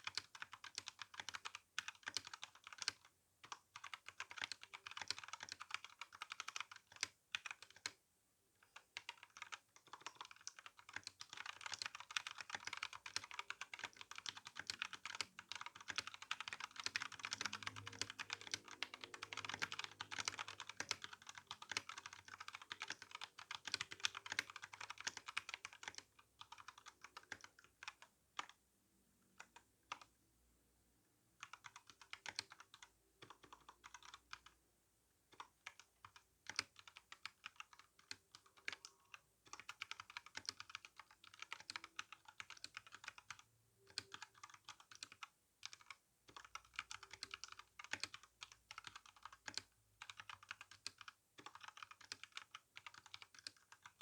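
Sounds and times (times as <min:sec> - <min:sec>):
typing on mechanical keyboard: 0:00.0 - 0:08.0, 0:08.6 - 0:28.6, 0:29.4 - 0:30.1, 0:31.4 - 0:34.6, 0:35.3 - 0:54.0.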